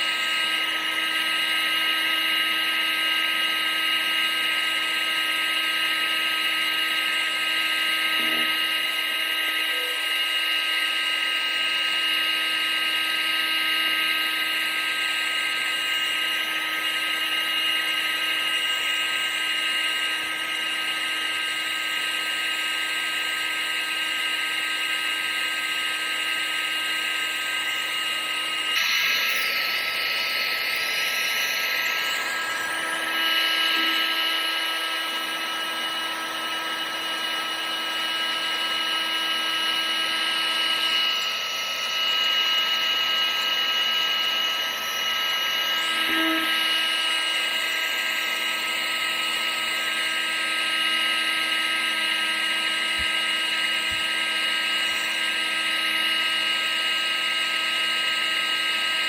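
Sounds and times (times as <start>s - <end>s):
appliance motor whirring: 0.0s - 59.0s.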